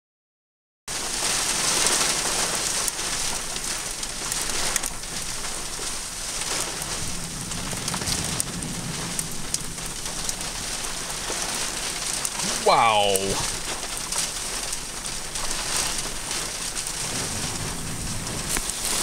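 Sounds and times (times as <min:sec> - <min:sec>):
rain hiss: 0:00.9 - 0:19.0
raindrops ticking on surface: 0:00.9 - 0:19.0.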